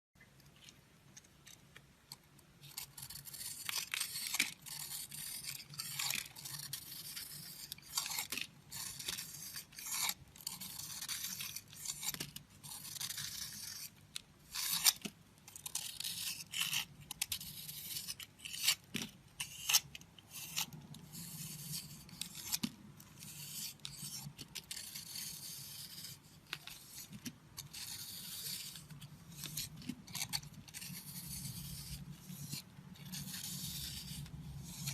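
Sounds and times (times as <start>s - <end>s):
blade scraping and slicing soap: 0.5s - 34.9s.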